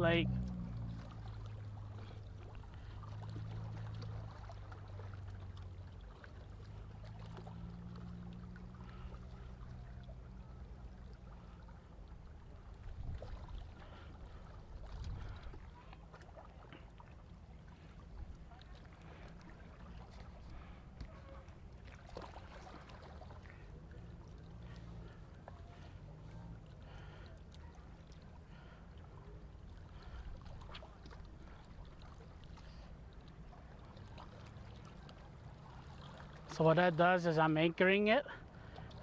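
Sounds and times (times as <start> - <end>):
faint low rumble: 0.0 - 36.5
water lapping: 0.0 - 39.0.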